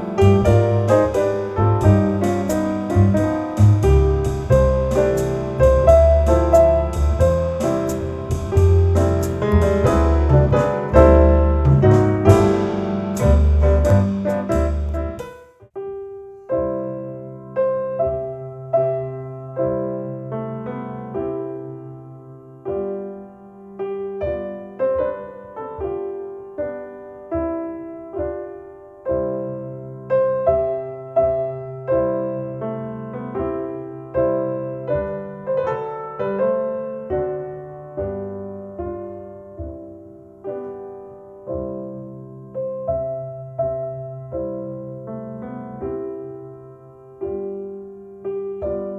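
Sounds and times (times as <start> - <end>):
slow solo piano over loudspeakers: 0.0 - 48.9.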